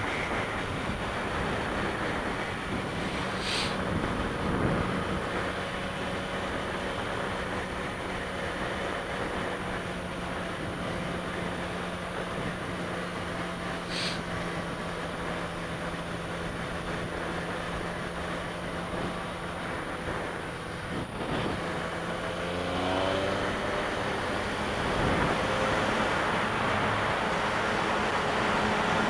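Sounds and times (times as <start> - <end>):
motorcycle engine: 0.0 - 29.0
wind noise: 0.0 - 29.0.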